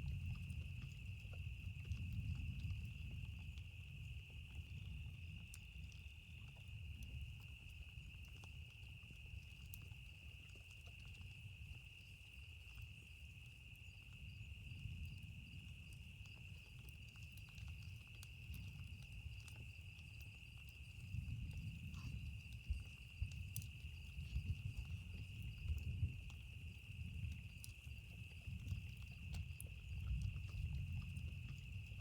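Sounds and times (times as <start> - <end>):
campfire crackling: 0.0 - 32.0
fire popping: 0.0 - 32.0
insect trill: 0.0 - 32.0.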